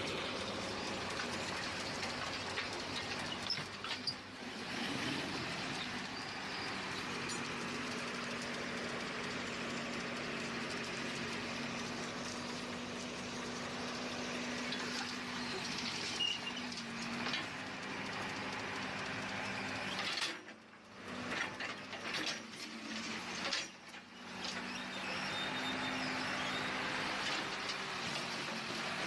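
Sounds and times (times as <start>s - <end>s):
heavy machinery engine hum: 0.0s - 29.0s.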